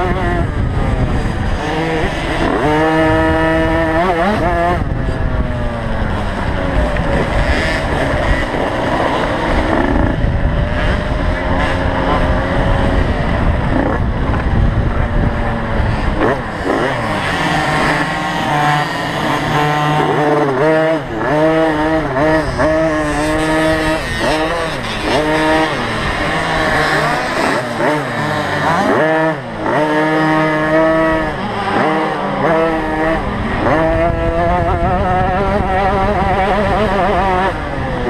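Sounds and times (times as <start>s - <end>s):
motocross bikes revving: 0.0s - 38.0s.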